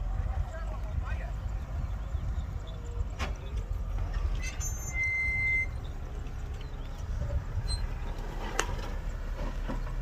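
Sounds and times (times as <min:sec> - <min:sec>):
diesel engine rumble: 0:00.0 - 0:10.0.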